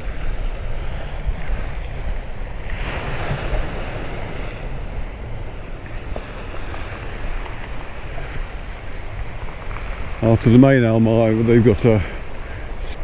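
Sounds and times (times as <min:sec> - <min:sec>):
surf washing against shore: 0:00.0 - 0:13.0
wind buffeting microphone: 0:00.0 - 0:13.0.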